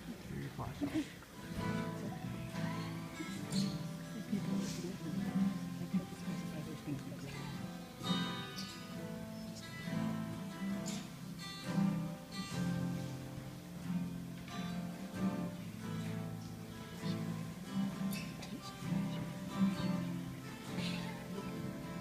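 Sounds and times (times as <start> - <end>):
acoustic guitar strumming chords: 1.2 - 22.0.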